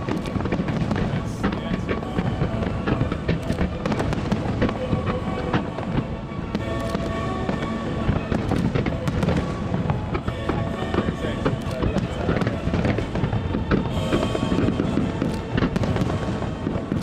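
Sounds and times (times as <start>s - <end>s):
fireworks bursting and crackling: 0.0s - 17.0s
music playing: 0.0s - 17.0s.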